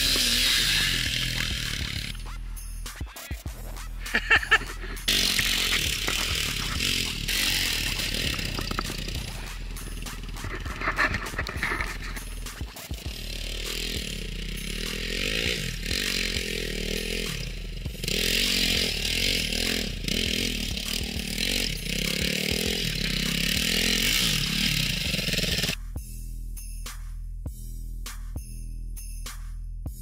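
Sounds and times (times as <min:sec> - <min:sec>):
dirt bike engine revving: 0:00.0 - 0:02.3, 0:04.0 - 0:25.8.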